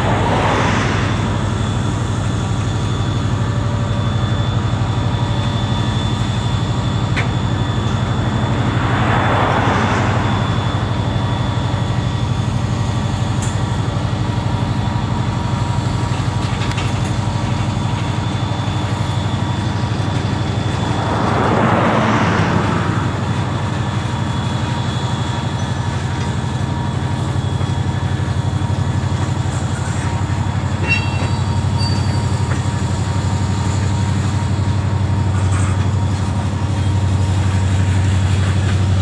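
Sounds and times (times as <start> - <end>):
freight train rumbling on rails: 0.0 - 39.0
high wheel squeals: 0.5 - 39.0.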